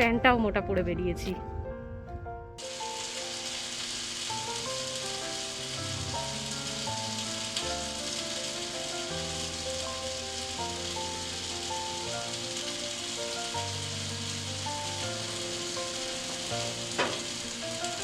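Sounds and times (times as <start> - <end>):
steady hiss: 2.6 - 18.0.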